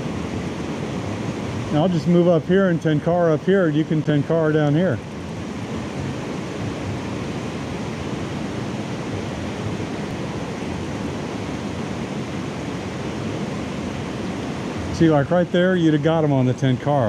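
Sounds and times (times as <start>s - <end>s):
river running over rocks: 0.0s - 17.0s.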